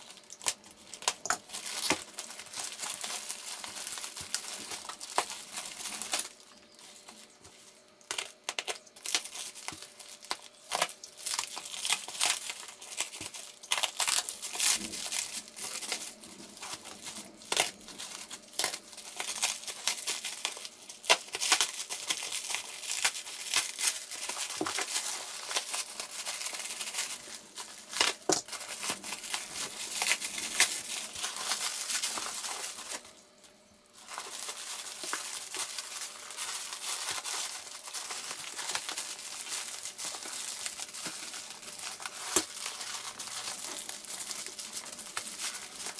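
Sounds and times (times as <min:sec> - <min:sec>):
packing tape tearing: 0:00.0 - 0:33.2, 0:34.0 - 0:45.9
plastic packaging crinkling: 0:00.0 - 0:45.9.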